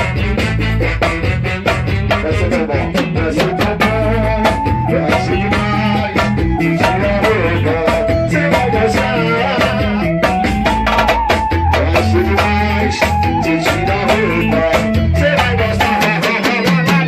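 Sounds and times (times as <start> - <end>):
band playing upbeat music: 0.0 - 17.0
drum kit beat: 0.0 - 17.0.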